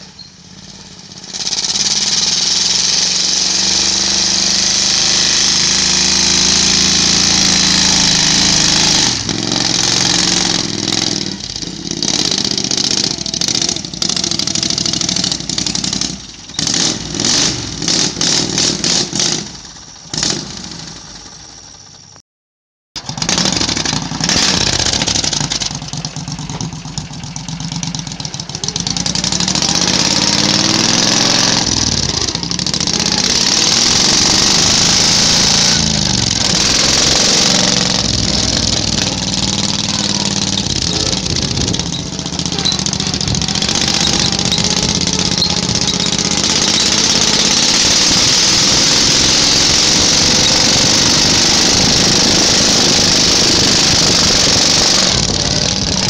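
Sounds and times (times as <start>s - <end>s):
small gasoline engine under load: 0.0s - 22.2s, 23.0s - 56.0s.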